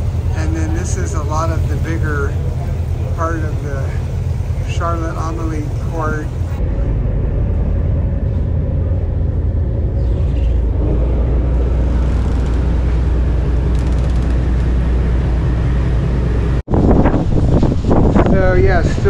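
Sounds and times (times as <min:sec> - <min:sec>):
large engine rumbling: 0:00.0 - 0:19.0.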